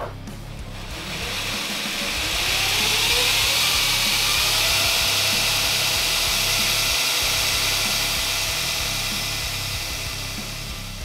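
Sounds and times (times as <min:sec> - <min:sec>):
belt grinder whining: 0:00.6 - 0:11.0.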